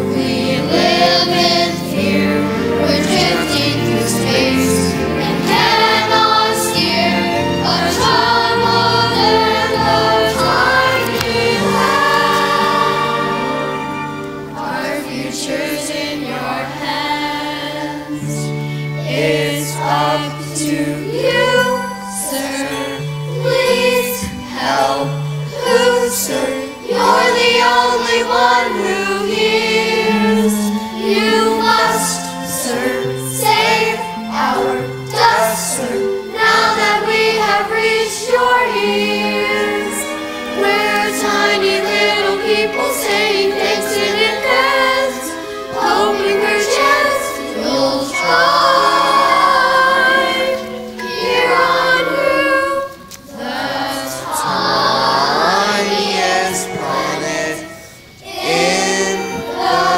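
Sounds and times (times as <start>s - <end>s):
children's chorus singing: 0.0s - 59.9s
instrumental accompaniment: 0.0s - 59.9s.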